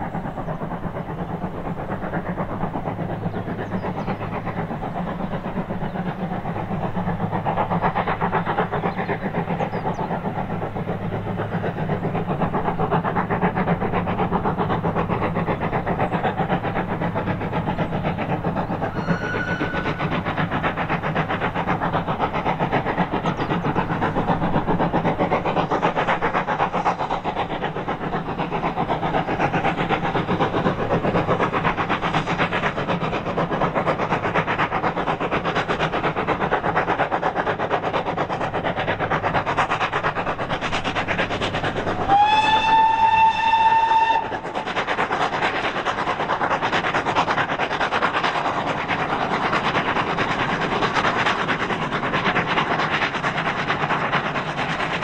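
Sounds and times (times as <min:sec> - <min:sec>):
steam locomotive exhaust beating: 0:00.0 - 0:55.0.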